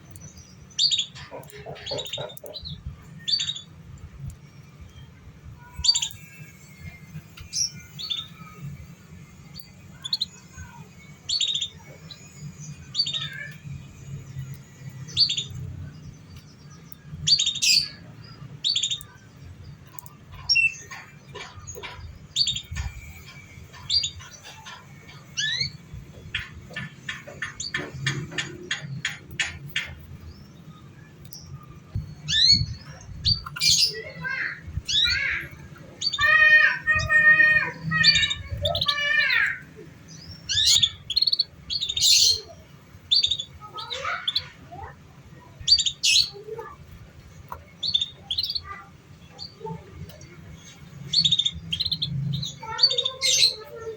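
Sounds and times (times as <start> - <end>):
canary singing and trilling: 0.0 - 53.9.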